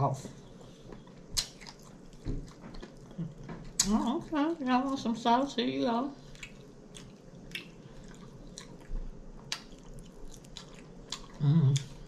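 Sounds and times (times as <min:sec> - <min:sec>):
wet chewing sounds: 0:00.4 - 0:05.2, 0:06.2 - 0:12.0.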